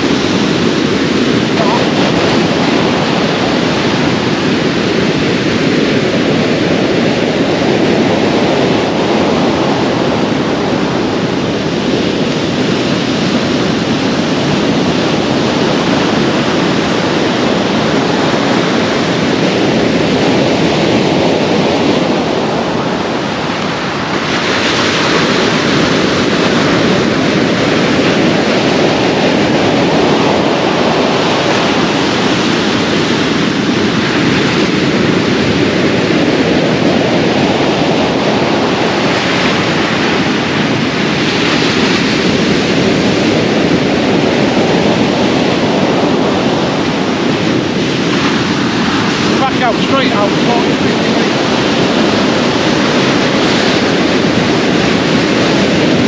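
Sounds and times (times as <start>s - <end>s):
surf waves breaking on beach: 0.0s - 56.0s.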